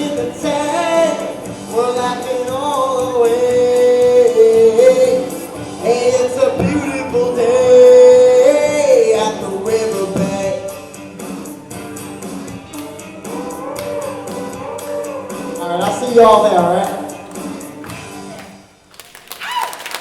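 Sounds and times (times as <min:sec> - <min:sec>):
person singing long notes: 0:00.0 - 0:18.4
instrumental country backing: 0:00.0 - 0:18.7.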